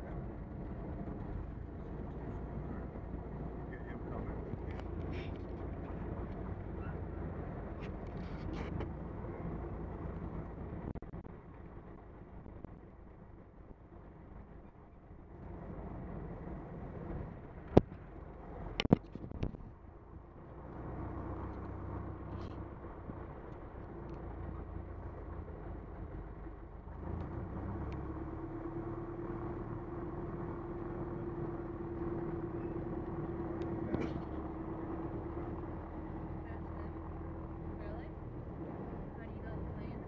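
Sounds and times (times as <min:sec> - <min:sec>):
light aircraft engine and propeller: 0:00.0 - 0:40.0.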